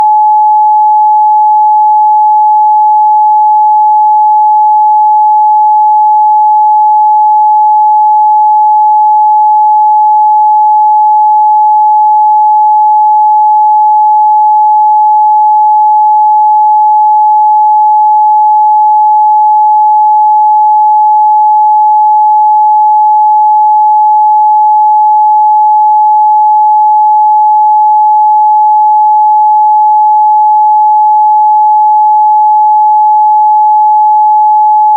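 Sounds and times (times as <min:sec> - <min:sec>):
pure sine-wave test tone: 0:00.0 - 0:34.9.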